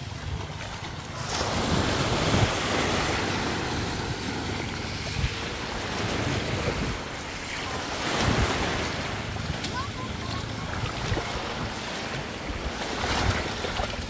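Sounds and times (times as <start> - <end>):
small waves washing on shore: 0.0 - 14.0
wind buffeting microphone: 0.0 - 14.0.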